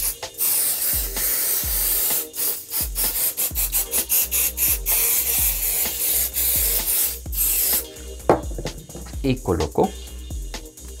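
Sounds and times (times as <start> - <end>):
aerosol spray hissing: 0.0 - 9.1
background music with steady beat: 0.0 - 11.0.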